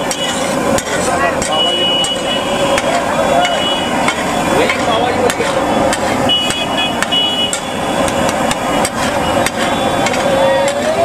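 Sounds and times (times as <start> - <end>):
metal spatula clacking on griddle: 0.0 - 11.0
street noise: 0.0 - 11.0
voices: 0.0 - 11.0.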